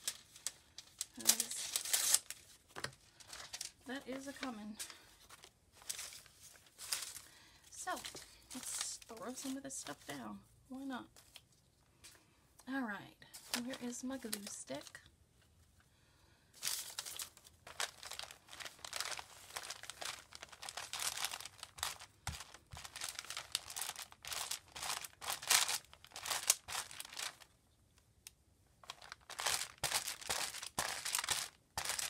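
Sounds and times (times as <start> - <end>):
paper rustling and crinkling: 0.0 - 10.2, 11.1 - 11.6, 13.4 - 15.0, 16.6 - 27.5, 28.8 - 32.0.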